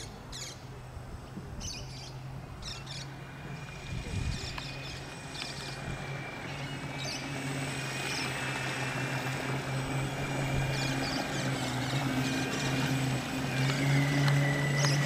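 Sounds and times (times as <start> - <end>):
model boat motor whining: 2.9 - 15.0.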